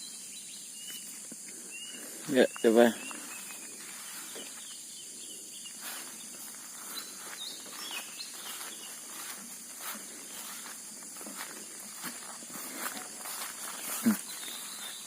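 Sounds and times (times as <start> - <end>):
bird chirps: 0.0 - 10.8, 11.4 - 15.0
high-pitched insect drone: 0.0 - 15.0.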